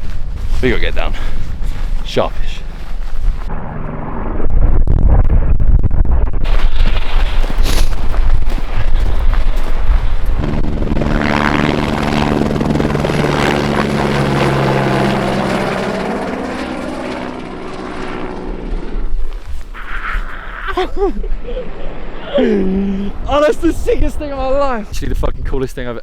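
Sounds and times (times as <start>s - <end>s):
wind buffeting microphone: 0.0s - 19.8s, 20.8s - 26.0s
helicopter passing: 0.0s - 24.6s.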